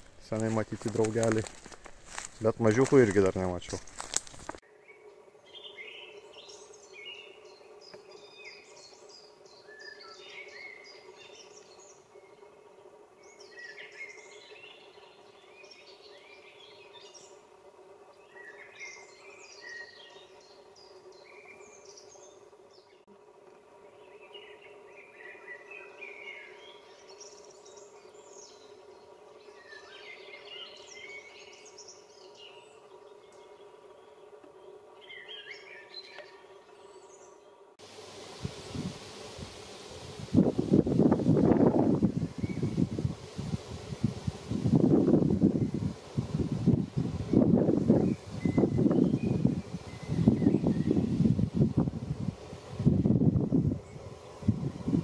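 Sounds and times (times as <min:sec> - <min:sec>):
songbirds singing: 0:00.0 - 0:23.1, 0:23.9 - 0:37.7, 0:41.2 - 0:55.0
faint steady hum: 0:00.0 - 0:55.0.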